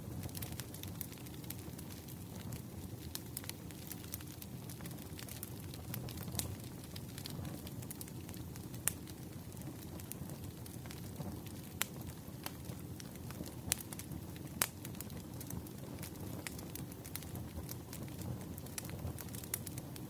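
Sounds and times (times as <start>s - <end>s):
wood fire crackling: 0.0s - 20.0s
sharp fire pops: 0.1s - 20.0s.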